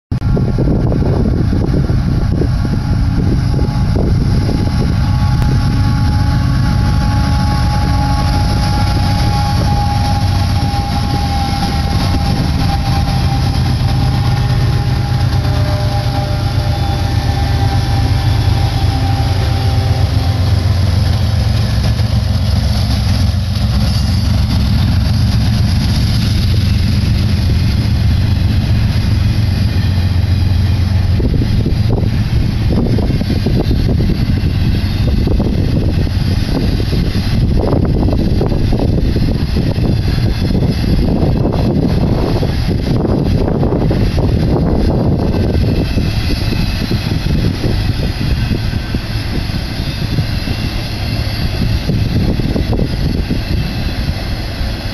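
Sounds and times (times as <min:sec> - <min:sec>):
freight train passing: 0:00.1 - 0:54.9
thin steady whine: 0:00.7 - 0:54.9.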